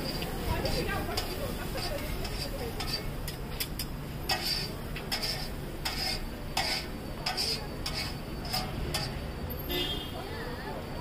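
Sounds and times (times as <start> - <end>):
metal spatula scraping on griddle: 0.0 - 9.3.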